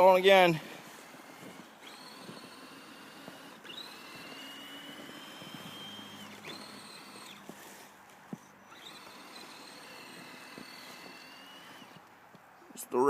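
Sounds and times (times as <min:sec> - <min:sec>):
electric motor and gears whining: 0:00.0 - 0:13.0.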